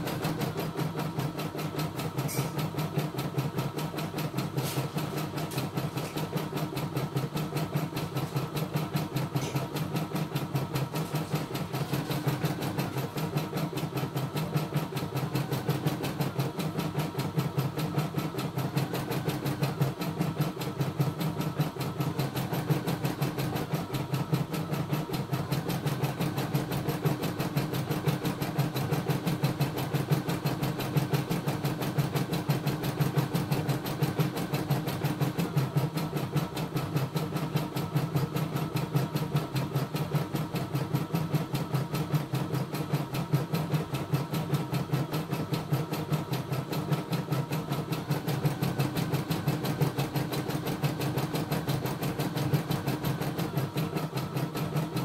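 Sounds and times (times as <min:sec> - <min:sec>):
embroidery machine stitching: 0:00.0 - 0:55.0.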